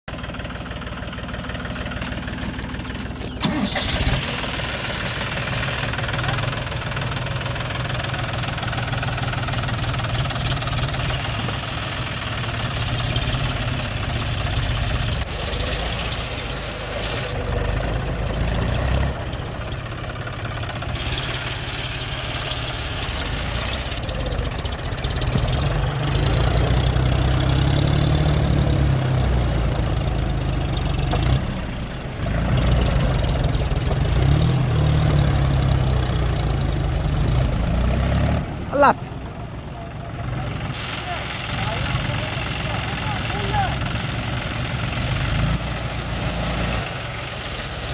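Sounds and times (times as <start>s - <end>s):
tractor engine rumbling: 0.1s - 47.9s.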